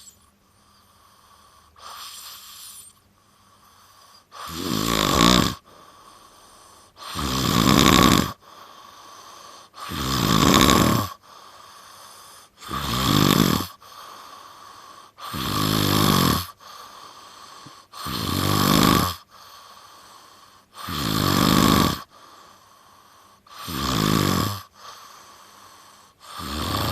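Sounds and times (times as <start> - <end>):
person snoring: 0.8 - 3.0, 3.6 - 26.9.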